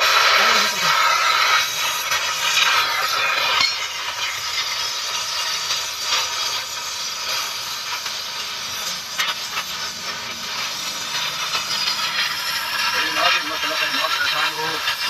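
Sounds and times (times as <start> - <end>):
welding torch flame hissing: 0.0 - 15.0.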